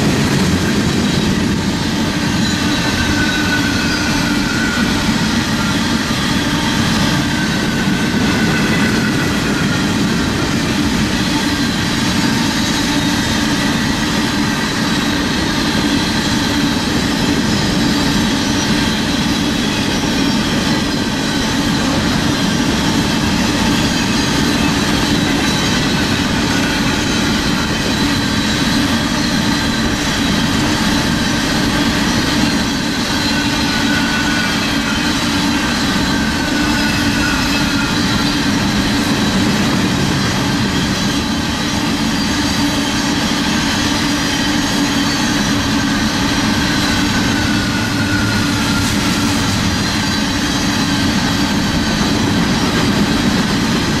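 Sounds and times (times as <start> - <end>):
high wheel squealing: 0.0 - 54.0
train wheels rumbling on rail: 0.0 - 54.0.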